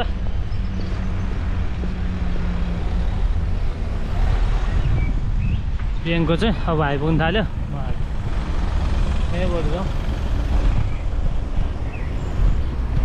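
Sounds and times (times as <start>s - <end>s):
city traffic: 0.0s - 13.0s
wind rumbling on microphone: 0.0s - 13.0s.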